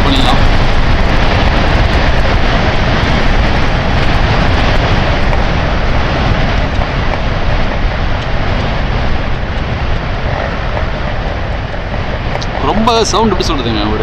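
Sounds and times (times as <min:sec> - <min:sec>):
motorcycle exhaust at speed: 0:00.0 - 0:14.0
wind buffeting microphone: 0:00.0 - 0:14.0.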